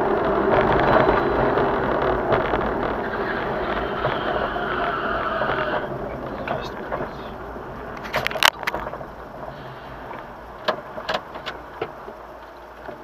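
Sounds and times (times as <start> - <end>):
car road and engine noise: 0.0 - 13.0
wind noise: 0.0 - 13.0.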